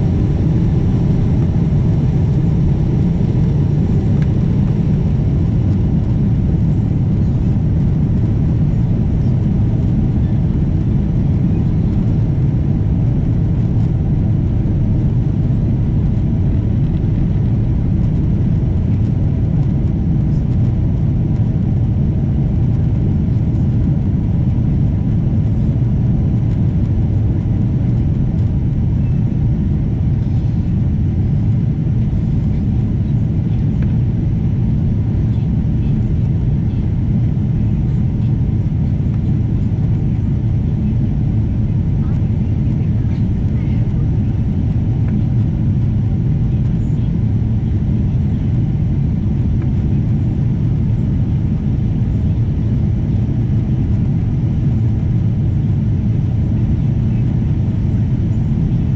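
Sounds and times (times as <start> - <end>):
jet airliner engine rumble: 0.0 - 58.9.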